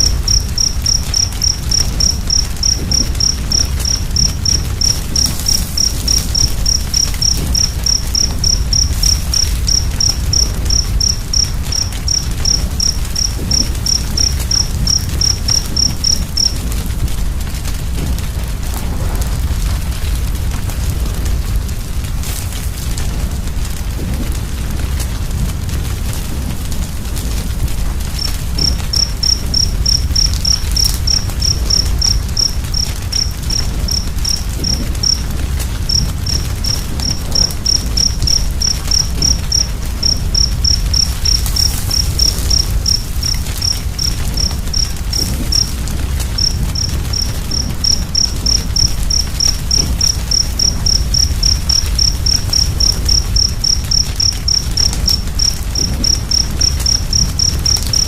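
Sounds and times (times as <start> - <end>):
cricket chirping: 0.0 - 21.5, 26.1 - 58.0
wood fire rumbling and crackling: 0.0 - 58.0.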